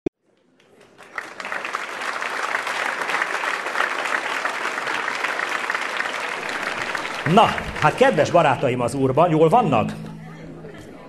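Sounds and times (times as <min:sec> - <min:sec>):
audience applauding: 0:00.4 - 0:09.3.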